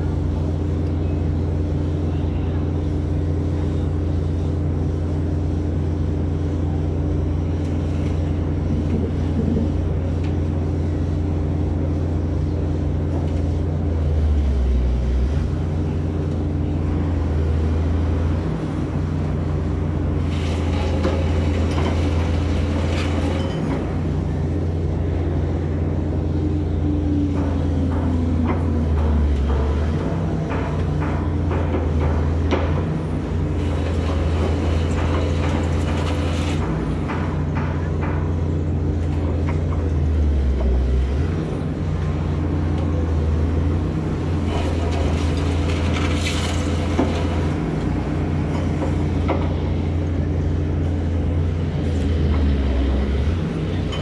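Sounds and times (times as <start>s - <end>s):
hydraulic machinery humming: 0.0s - 54.0s.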